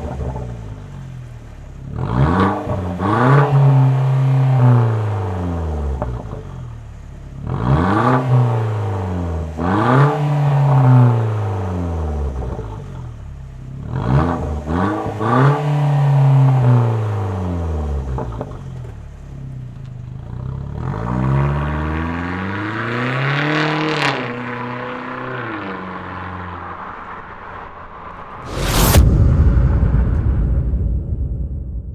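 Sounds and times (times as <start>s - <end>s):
car engine revving: 0.0s - 29.3s.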